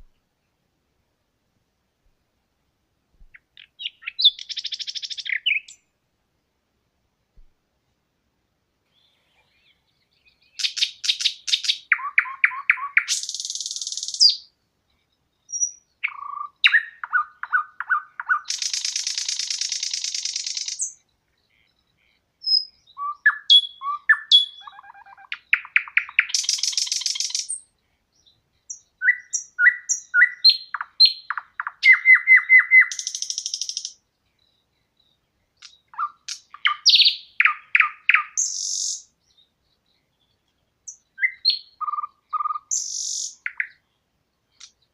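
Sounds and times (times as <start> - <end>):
songbird singing: 0.0 - 1.2, 2.0 - 6.6, 7.3 - 44.9.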